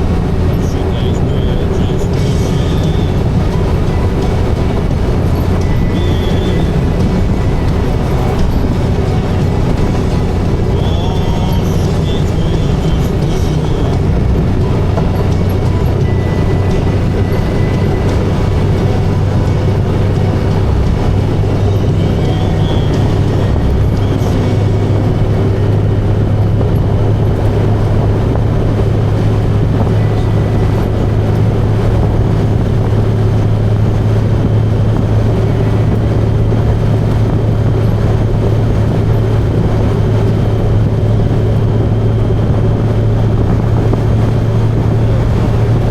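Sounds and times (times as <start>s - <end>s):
motorcycle engine drone: 0.0s - 45.9s.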